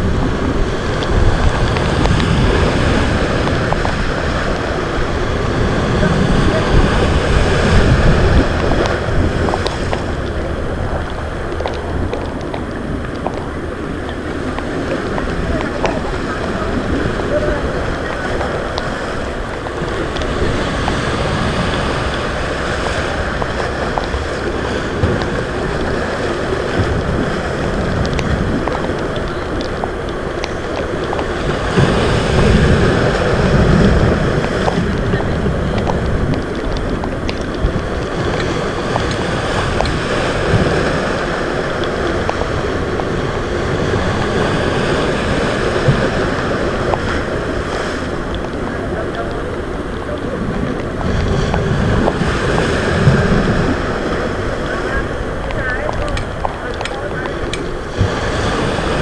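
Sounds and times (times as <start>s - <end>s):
sea waves surging and breaking: 0.0s - 59.0s
wind buffeting microphone: 0.0s - 59.0s.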